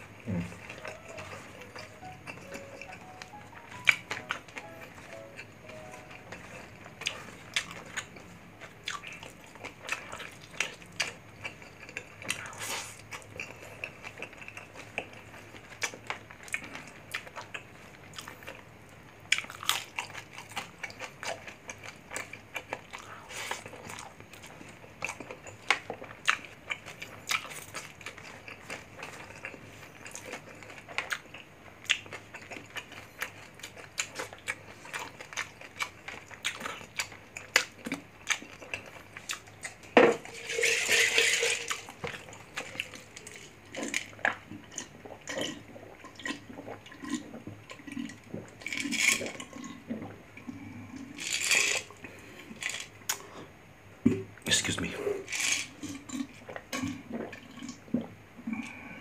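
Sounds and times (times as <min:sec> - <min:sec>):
chewing crispy food: 0:00.0 - 0:53.6, 0:54.2 - 0:59.0.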